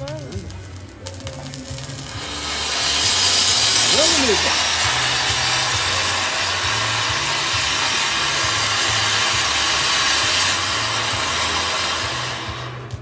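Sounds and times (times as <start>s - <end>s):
firework fountain hissing: 0.0s - 13.0s.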